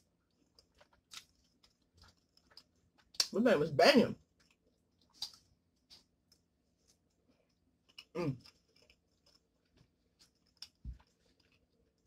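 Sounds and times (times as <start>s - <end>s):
person chewing food: 0.0s - 3.3s, 4.2s - 12.0s.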